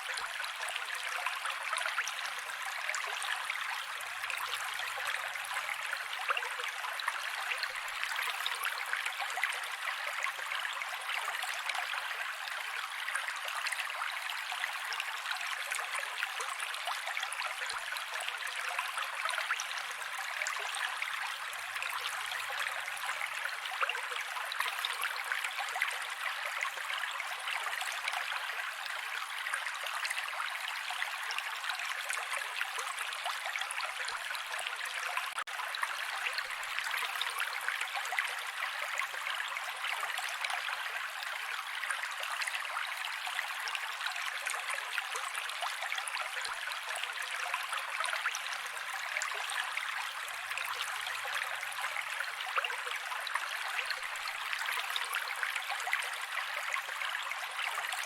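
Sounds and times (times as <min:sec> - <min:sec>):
creek water running over rocks: 0:00.0 - 0:58.0.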